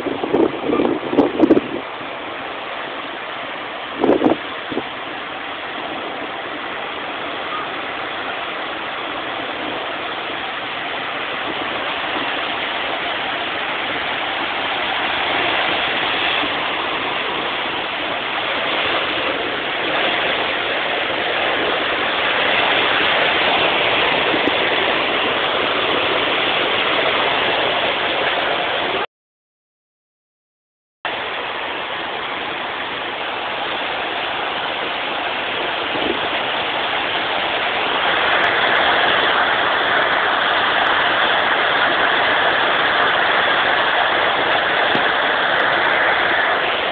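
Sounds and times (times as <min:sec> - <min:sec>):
heavy hail pelting down: 0:04.0 - 0:29.0, 0:31.1 - 0:46.9.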